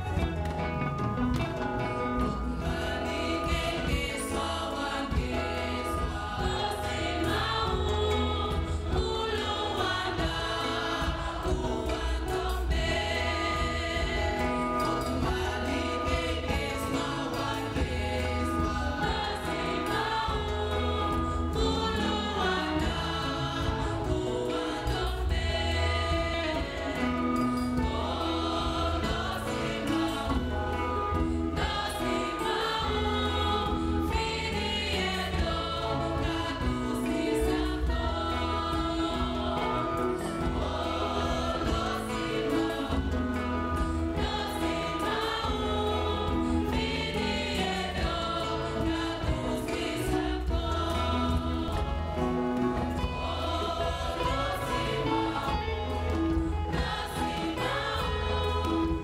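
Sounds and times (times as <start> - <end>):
choir singing a gospel hymn: 0.0 - 59.0.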